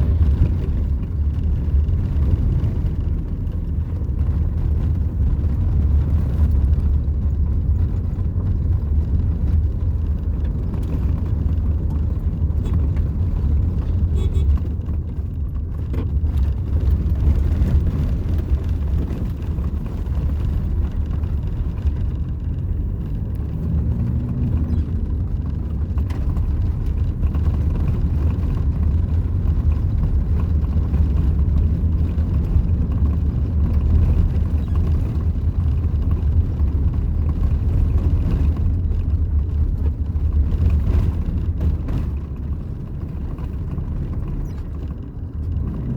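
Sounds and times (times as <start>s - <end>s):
vehicle road and engine rumble: 0.0s - 45.9s.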